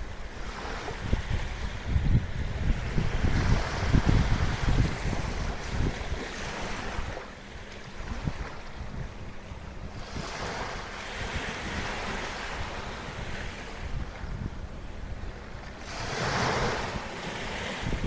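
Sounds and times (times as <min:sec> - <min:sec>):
small waves washing ashore: 0:00.0 - 0:18.0
wind buffeting microphone: 0:00.0 - 0:18.0.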